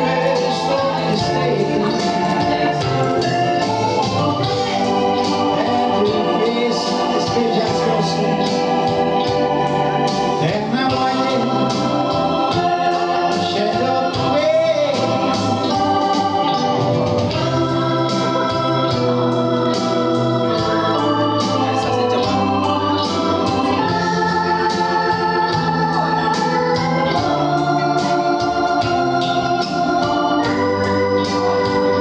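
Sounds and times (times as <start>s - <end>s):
organ playing held chords: 0.0s - 32.0s.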